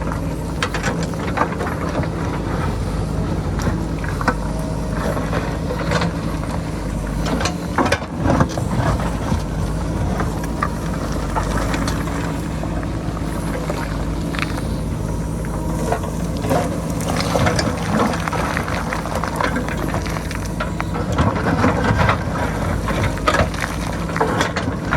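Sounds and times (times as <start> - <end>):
diesel engine running under load: 0.0 - 24.9.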